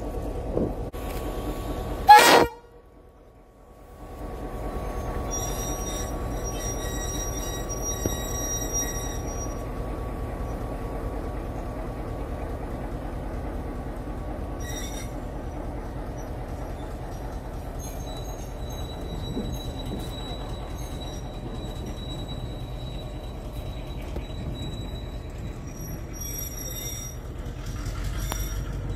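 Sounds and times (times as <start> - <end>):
locomotive engine rumbling: 0.0 - 28.9
wheels squealing on rails: 1.0 - 2.7, 4.2 - 28.9.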